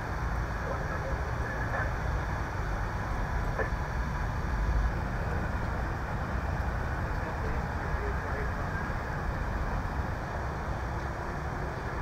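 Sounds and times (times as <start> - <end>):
street noise: 0.0 - 12.0
vehicle engines idling: 0.0 - 12.0.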